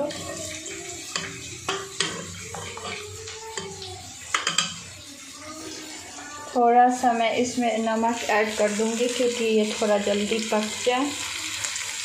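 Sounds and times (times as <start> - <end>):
wet stirring in a pot: 0.0 - 12.0.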